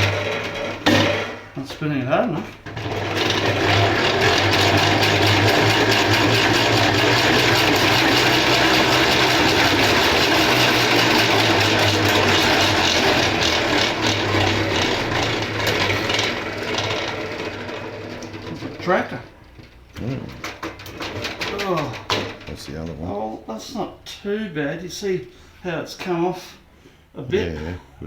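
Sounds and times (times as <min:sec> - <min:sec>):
honey extractor whirring and rattling: 0:00.0 - 0:26.1.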